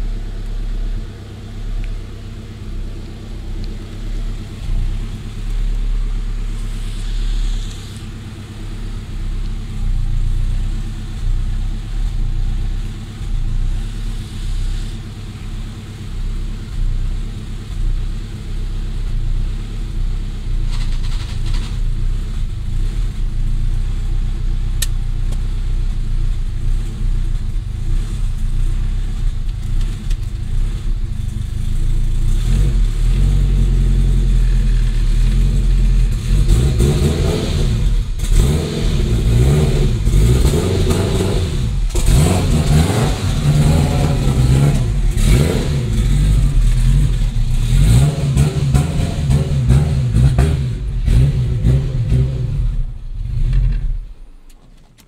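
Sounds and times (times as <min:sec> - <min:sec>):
car engine idling unevenly: 0:00.0 - 0:55.0.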